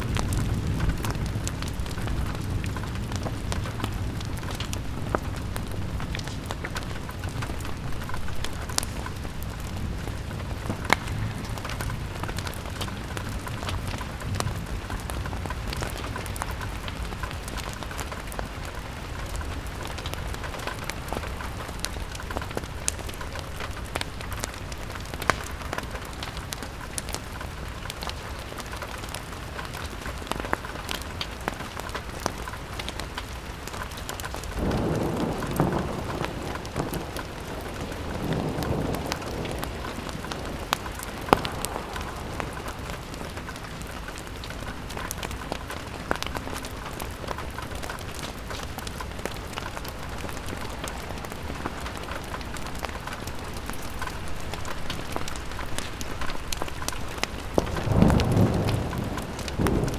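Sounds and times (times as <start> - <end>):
log fire crackling: 0.0 - 59.9
low rumble of wind: 0.0 - 59.9
rain pattering on a window: 0.0 - 59.9.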